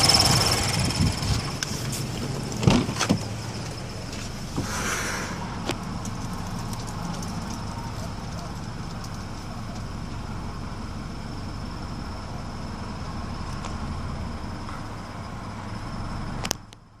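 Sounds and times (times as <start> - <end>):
car engine idling roughly: 0.0 - 17.0.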